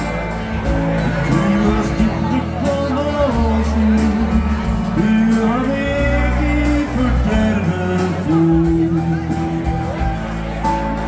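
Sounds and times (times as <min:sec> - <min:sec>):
melodic lead line: 0:00.0 - 0:11.0
steady drum beat: 0:00.0 - 0:11.0.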